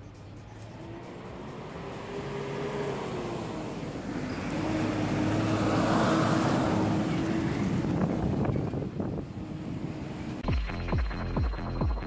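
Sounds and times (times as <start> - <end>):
motor vehicle passing: 0.0 - 10.4.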